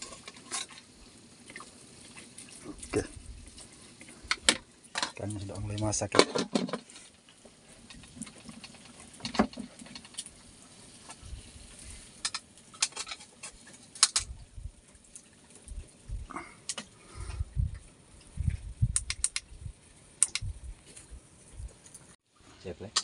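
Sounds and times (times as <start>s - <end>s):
faint hiss: 0.0s - 23.0s
fish crackling on a grill: 0.0s - 23.0s.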